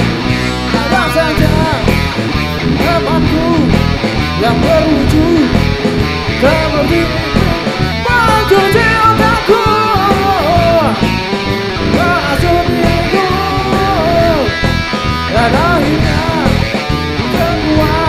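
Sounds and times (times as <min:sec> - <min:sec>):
guitar with bending notes: 0:00.0 - 0:18.0
live rock band playing: 0:00.0 - 0:18.0.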